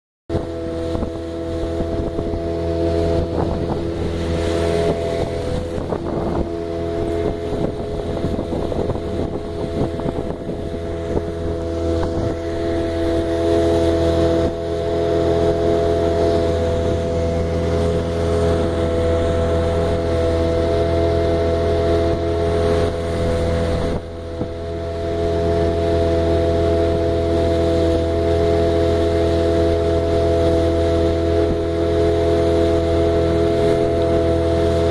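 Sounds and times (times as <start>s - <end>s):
outboard motor running: 0.3s - 34.9s
wind on microphone: 0.3s - 34.9s.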